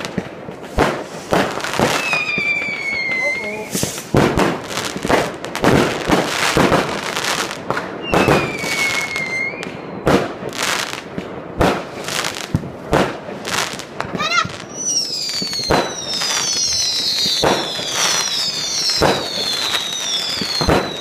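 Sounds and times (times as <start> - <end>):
whistling firework: 0.0 - 11.0, 11.7 - 21.0
firecrackers banging and crackling: 0.0 - 21.0.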